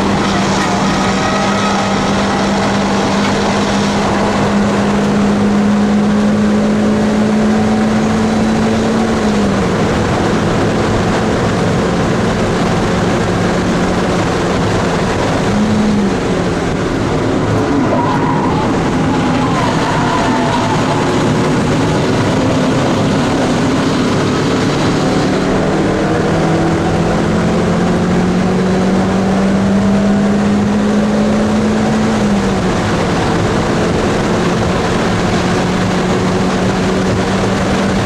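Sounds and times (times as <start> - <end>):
car engine revving hard: 0.0 - 38.0
wind and road noise: 0.0 - 38.0.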